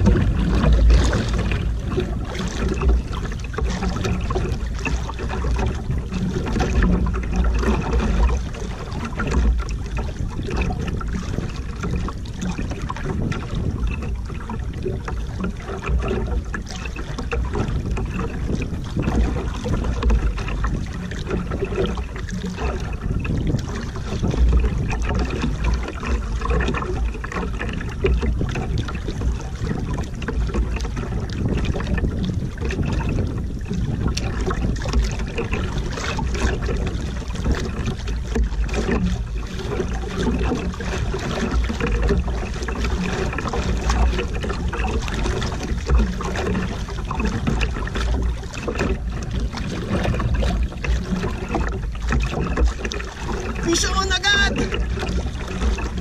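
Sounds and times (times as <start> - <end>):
waves splashing against boat hull: 0.0 - 56.0
wind buffeting microphone: 0.0 - 56.0.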